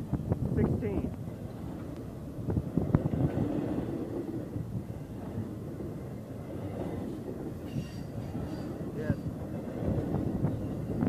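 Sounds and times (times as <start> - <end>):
train wheels rumbling on rail: 0.0 - 11.0
sharp train clacks: 0.1 - 11.0.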